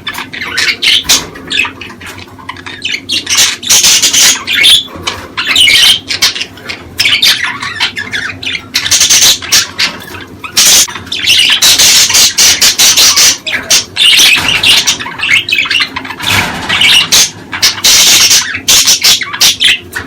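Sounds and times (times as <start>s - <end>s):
budgerigars chattering and squawking: 0.0s - 20.0s.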